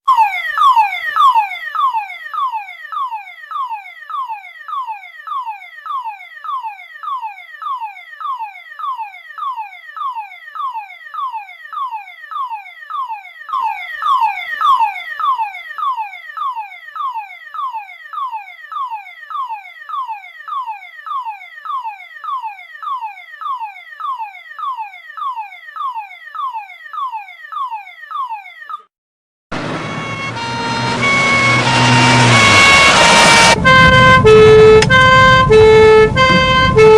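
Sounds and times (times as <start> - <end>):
police siren falling whoop: 0.1 - 28.9, 29.6 - 36.9.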